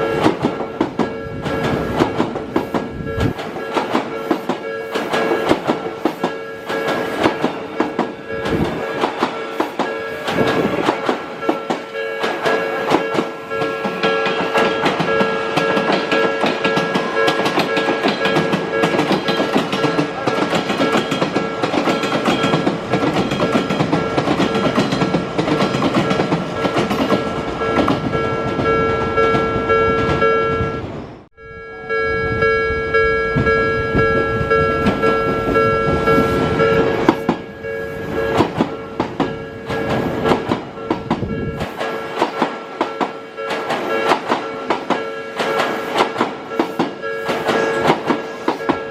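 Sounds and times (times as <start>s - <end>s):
train wheels clattering on rails: 0.0s - 30.5s, 33.3s - 48.9s
level crossing warning bell: 0.0s - 48.9s.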